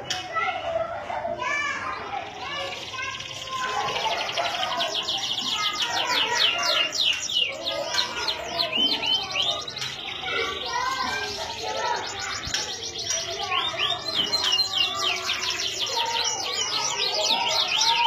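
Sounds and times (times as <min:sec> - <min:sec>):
canary singing trills: 0:01.8 - 0:18.0.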